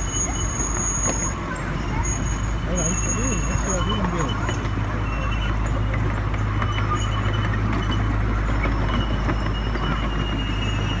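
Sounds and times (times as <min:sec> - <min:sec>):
miniature train wheels clattering: 0:00.0 - 0:11.0.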